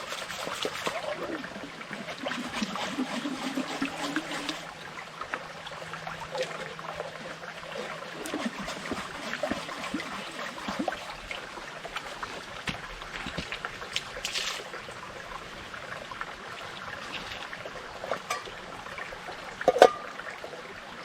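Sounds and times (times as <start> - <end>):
stream trickling over stones: 0.0 - 21.0.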